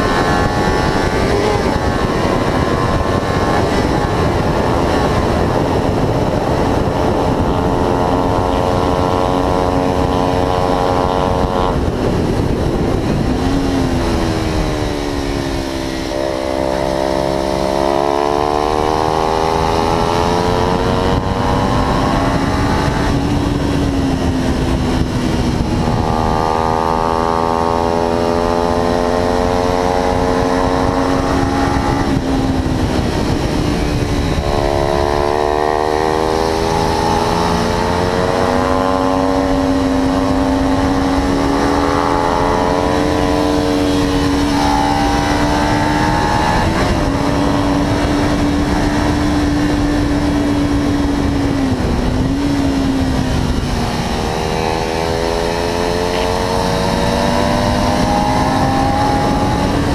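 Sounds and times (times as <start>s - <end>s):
motorcycle engine revving: 0.0s - 59.9s
wind and road noise: 0.0s - 59.9s.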